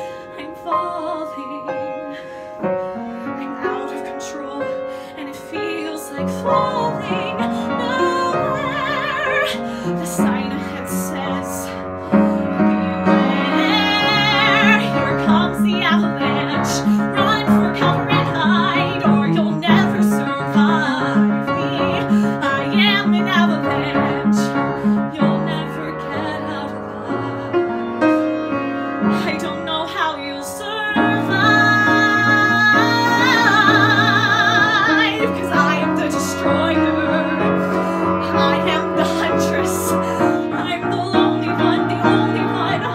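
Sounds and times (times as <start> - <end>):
woman singing with vibrato: 0.0 - 2.4, 3.4 - 11.8, 12.4 - 27.7, 29.1 - 42.9
piano chords: 0.0 - 42.9.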